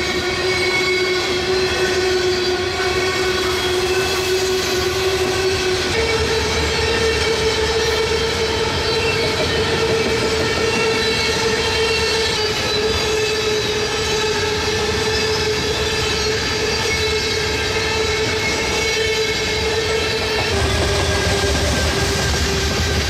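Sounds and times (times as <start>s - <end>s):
train wheels rumbling on rails: 0.0s - 23.0s
wheel squeal: 0.1s - 23.0s.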